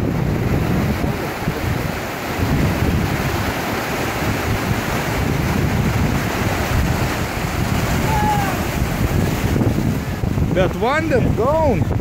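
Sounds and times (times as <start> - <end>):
river rapids rushing over rocks: 0.0 - 11.9
wind buffeting microphone: 0.0 - 12.0.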